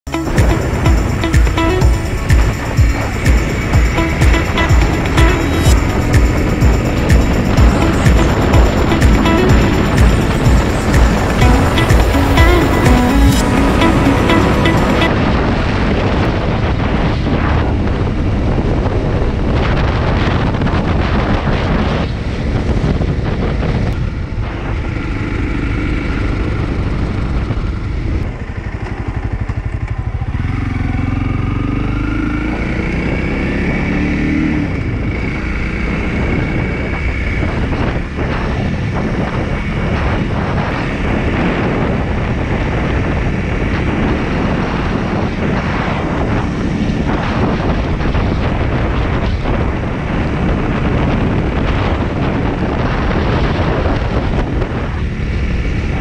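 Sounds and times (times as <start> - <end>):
motorcycle engine running: 0.1 - 21.8, 22.5 - 56.0.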